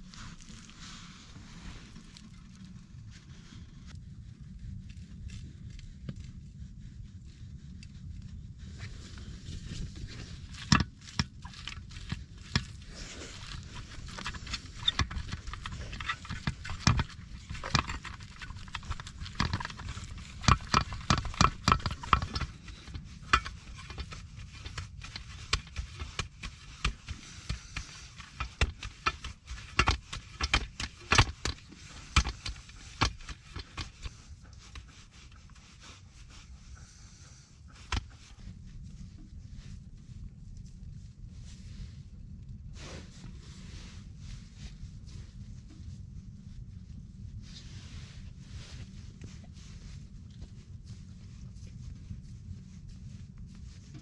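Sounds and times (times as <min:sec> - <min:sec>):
hands kneading wet minced meat: 0:00.0 - 0:03.4, 0:09.1 - 0:41.4, 0:44.0 - 0:54.0
steady low rumble: 0:00.0 - 0:54.0.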